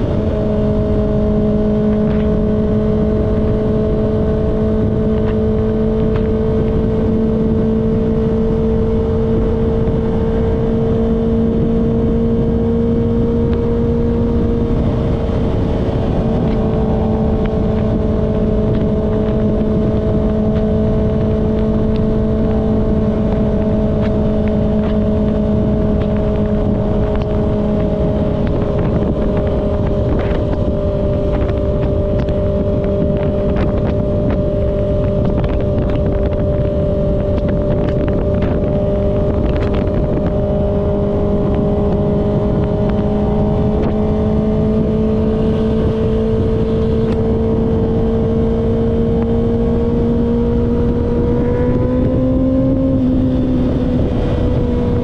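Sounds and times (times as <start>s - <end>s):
motorcycle engine cruising: 0.0s - 55.0s
wind rush: 0.0s - 55.0s.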